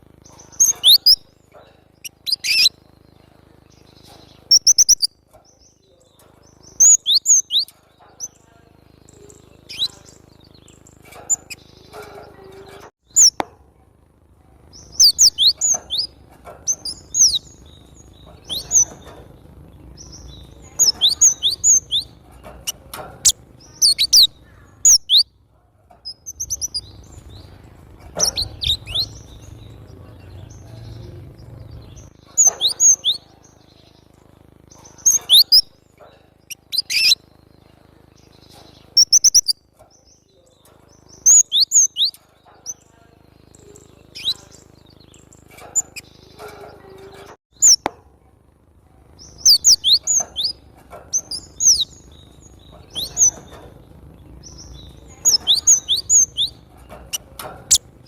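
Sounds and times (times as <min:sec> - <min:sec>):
bird chirping song: 0:00.0 - 0:13.6, 0:14.5 - 0:48.0, 0:49.0 - 0:58.0.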